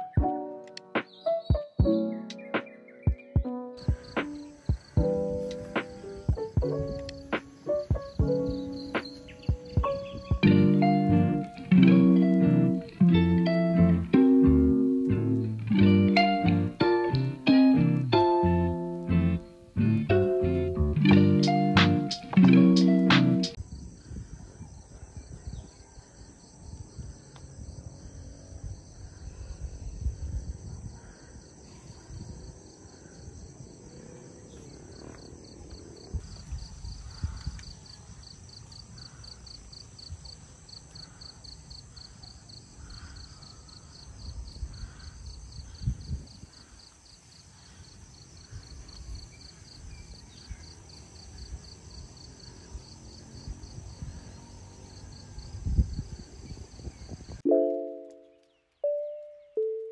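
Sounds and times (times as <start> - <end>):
insects chirring: 0.0 - 20.1, 21.2 - 57.4.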